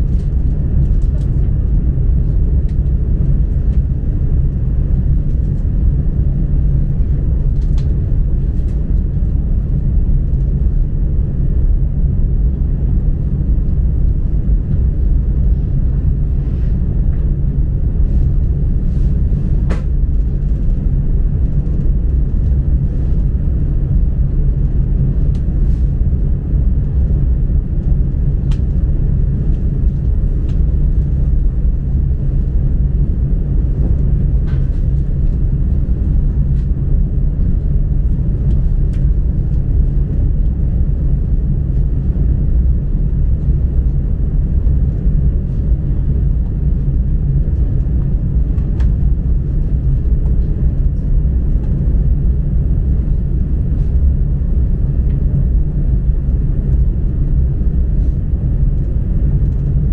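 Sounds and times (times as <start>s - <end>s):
train rumble inside carriage: 0.0s - 59.9s.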